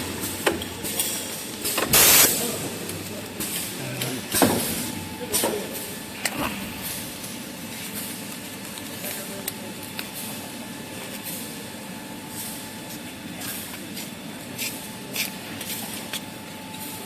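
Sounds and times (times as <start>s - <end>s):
paper making machine running: 0.0s - 17.0s.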